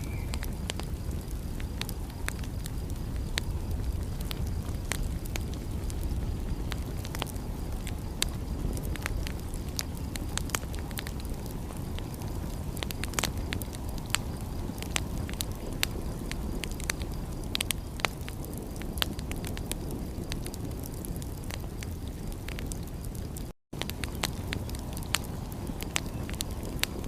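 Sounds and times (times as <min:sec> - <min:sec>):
fireplace fire crackling and popping: 0:00.0 - 0:27.0.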